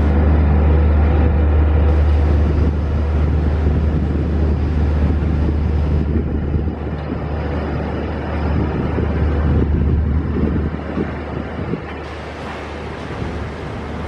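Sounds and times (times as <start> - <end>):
diesel locomotive engine drone: 0.0 - 14.0
wind buffeting microphone: 0.0 - 14.0.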